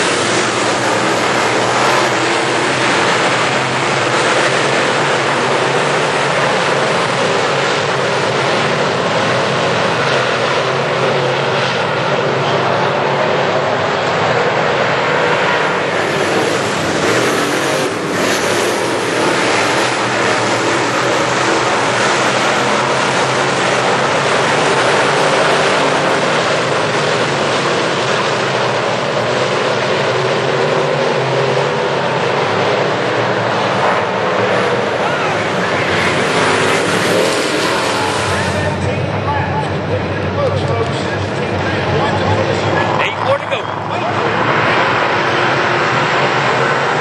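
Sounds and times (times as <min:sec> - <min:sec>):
race car engines droning: 0:00.0 - 0:47.0.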